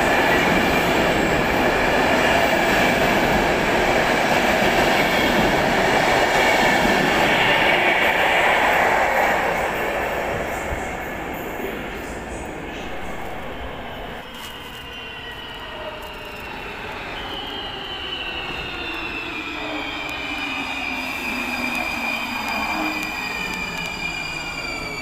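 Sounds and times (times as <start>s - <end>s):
train rumbling along rails: 0.0s - 25.0s.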